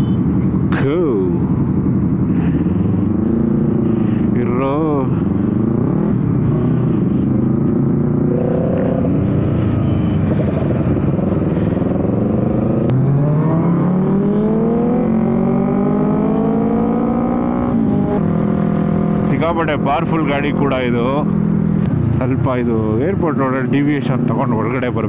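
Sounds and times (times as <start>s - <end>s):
motorcycle engine accelerating: 1.6s - 22.3s.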